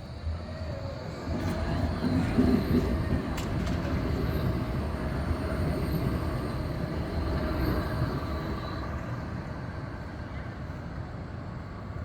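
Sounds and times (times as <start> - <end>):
tram wheels rumbling on rail: 0.1 - 12.0.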